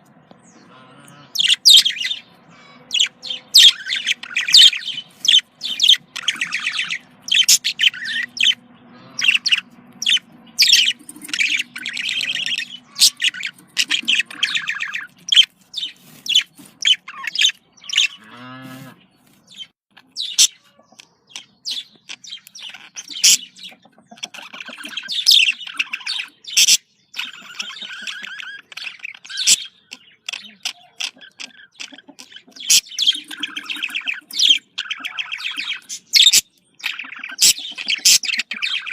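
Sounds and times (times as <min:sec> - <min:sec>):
budgerigars chirping and warbling: 0:00.2 - 0:38.9.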